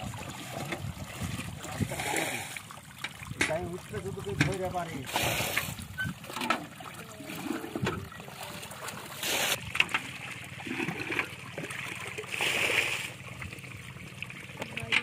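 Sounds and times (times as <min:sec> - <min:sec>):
water pouring out of bucket: 0:00.0 - 0:13.6
muddy water splashing: 0:00.0 - 0:15.0.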